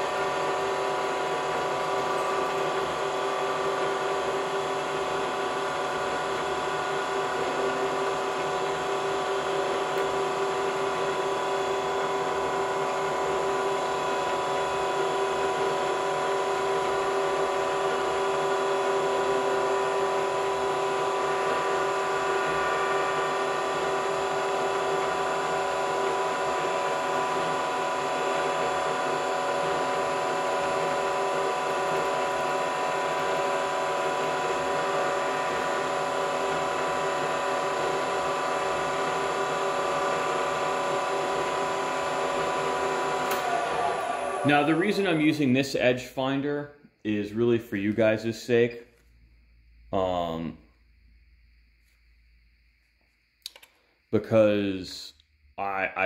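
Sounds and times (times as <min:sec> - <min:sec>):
milling machine humming: 0:00.0 - 0:45.6.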